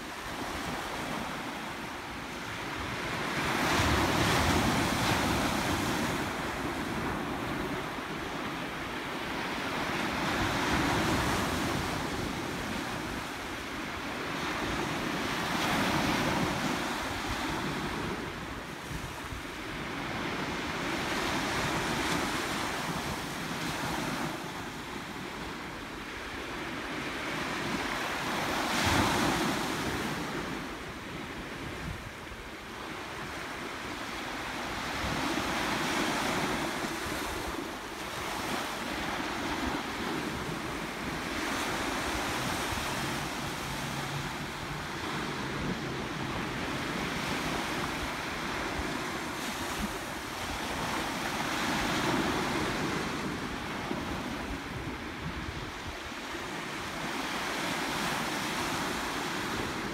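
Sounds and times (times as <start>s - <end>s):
waves breaking on beach: 0.0s - 59.9s.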